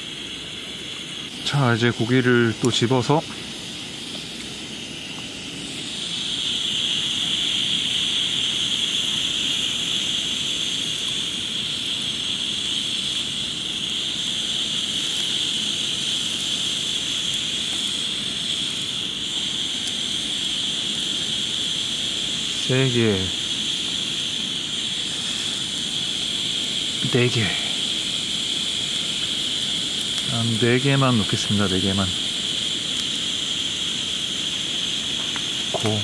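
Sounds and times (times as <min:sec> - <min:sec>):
beef sizzling on grill pan: 0:00.0 - 0:36.0.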